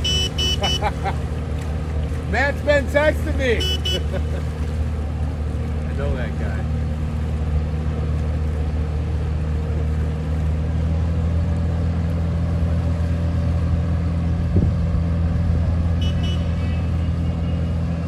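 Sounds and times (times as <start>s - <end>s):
small engine droning: 0.0s - 18.0s.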